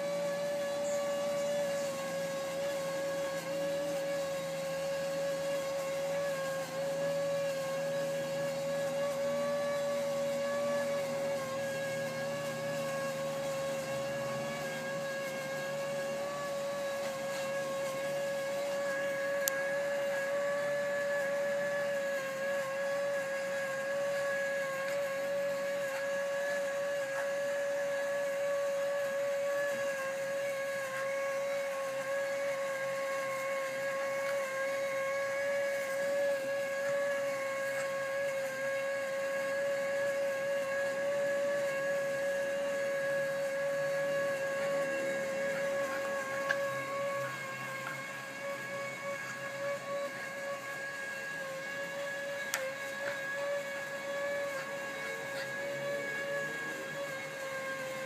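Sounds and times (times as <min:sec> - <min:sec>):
small motor and fan whining: 0:00.0 - 0:58.0.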